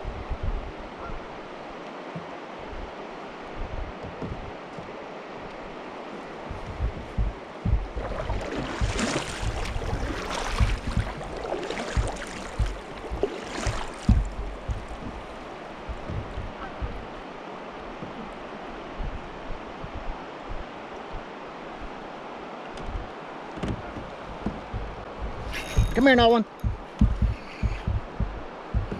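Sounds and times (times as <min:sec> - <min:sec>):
wind buffeting microphone: 0:00.0 - 0:01.5, 0:02.6 - 0:04.9, 0:06.3 - 0:28.9
river water flowing: 0:00.0 - 0:28.9.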